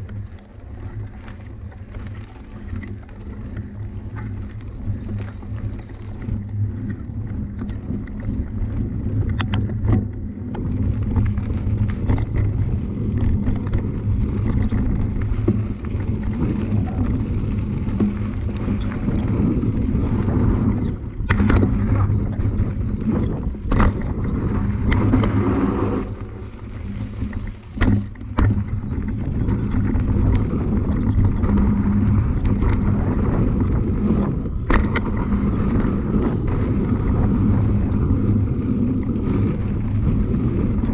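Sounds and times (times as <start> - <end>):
bike knocks and rattles: 0.0 - 40.9
bike tyres rumbling on trail: 0.0 - 40.9
wind on microphone: 0.0 - 40.9.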